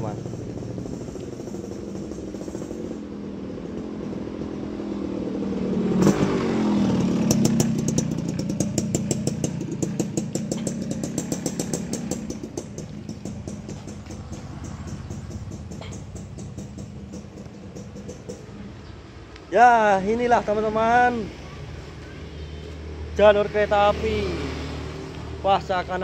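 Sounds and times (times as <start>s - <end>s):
engine puttering: 0.0s - 22.0s
motorcycle passing by: 0.0s - 26.0s.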